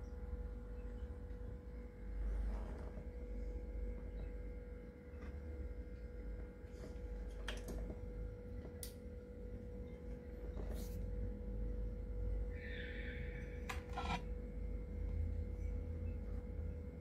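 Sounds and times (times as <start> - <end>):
steady humming tone: 0.0 - 17.0.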